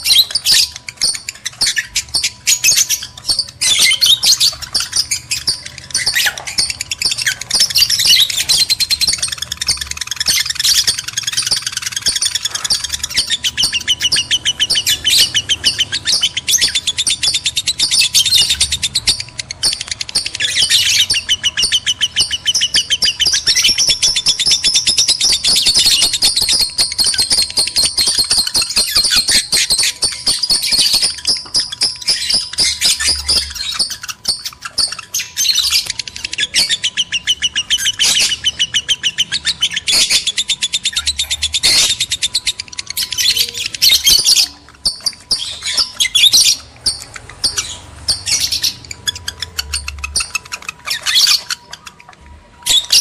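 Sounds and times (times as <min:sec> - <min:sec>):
lovebirds chirping and squawking: 0:00.0 - 0:53.0.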